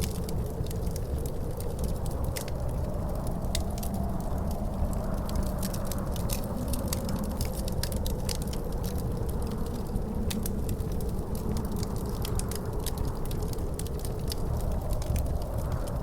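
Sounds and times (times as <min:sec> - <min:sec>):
low rumble of wind: 0:00.0 - 0:16.0
wood fire crackling and popping: 0:00.0 - 0:16.0.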